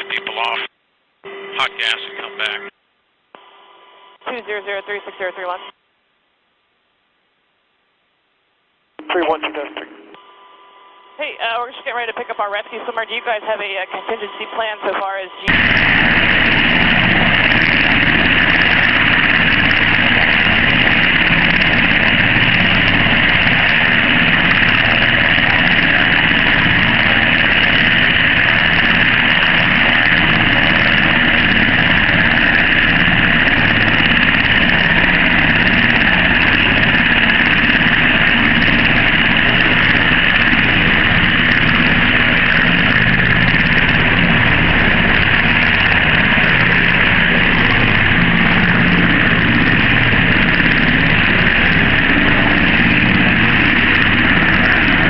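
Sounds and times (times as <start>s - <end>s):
helicopter engines and rotors: 0.0s - 0.6s, 1.3s - 2.6s, 4.3s - 5.7s, 11.2s - 55.0s.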